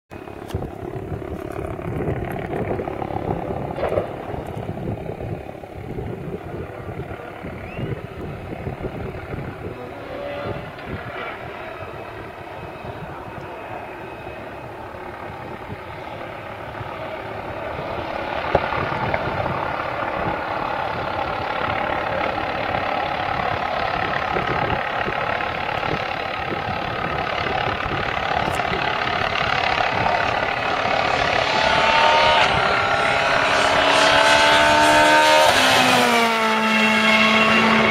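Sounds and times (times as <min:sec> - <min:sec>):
rally car engine approaching: 0:00.1 - 0:37.9.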